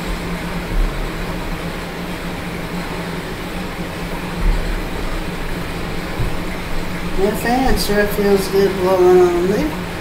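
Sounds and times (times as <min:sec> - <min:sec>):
electric fan humming: 0:00.0 - 0:10.0
exercise bike rumbling: 0:00.0 - 0:10.0.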